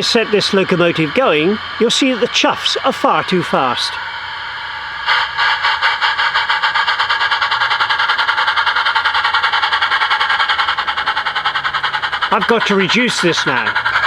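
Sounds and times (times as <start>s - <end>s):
fast steam chuffs: 0.0s - 14.0s
steam hiss: 0.0s - 14.0s.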